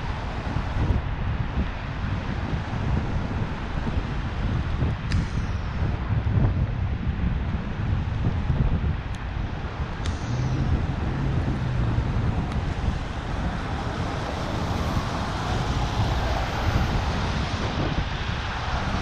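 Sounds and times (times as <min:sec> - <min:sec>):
road traffic din: 0:00.0 - 0:19.0
wind on microphone: 0:00.0 - 0:19.0.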